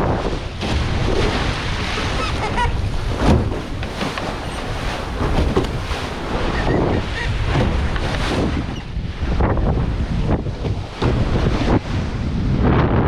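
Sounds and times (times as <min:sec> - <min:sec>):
waves slapping boat hull: 0:00.0 - 0:13.0
wind buffeting microphone: 0:00.0 - 0:13.0.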